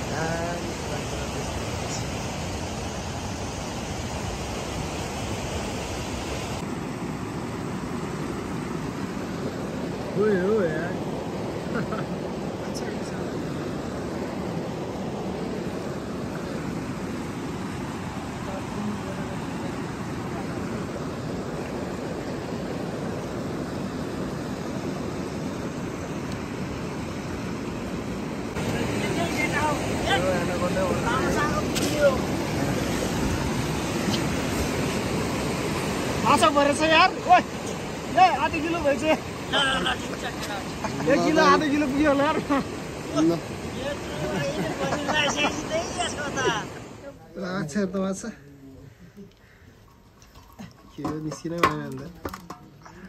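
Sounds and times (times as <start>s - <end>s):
waves washing over rocky shore: 0.0s - 47.0s.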